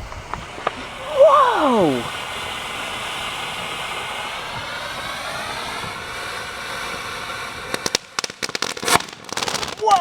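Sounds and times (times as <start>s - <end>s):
firework fountain hissing: 0.0s - 10.0s
sharp crackling pops: 0.0s - 10.0s.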